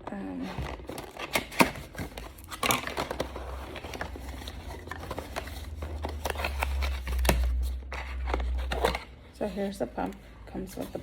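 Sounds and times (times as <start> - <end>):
packaging clicks and crinkles: 0.0 - 9.2.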